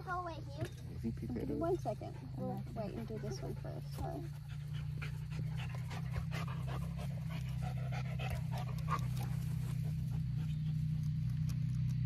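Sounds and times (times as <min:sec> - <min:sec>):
low rumble: 0:00.0 - 0:12.0
dog panting: 0:01.2 - 0:11.5.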